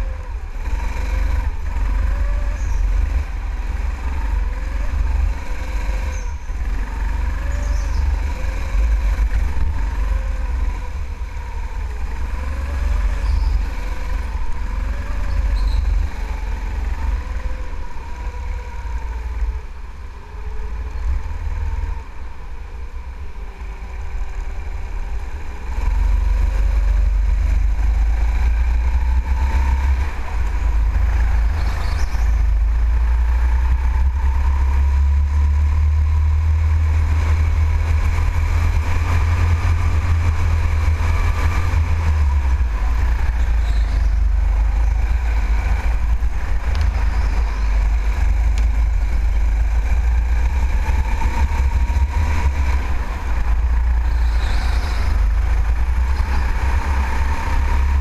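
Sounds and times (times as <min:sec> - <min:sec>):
go-kart motor racing: 0:00.0 - 0:58.0
heavy low rumble: 0:00.0 - 0:58.0.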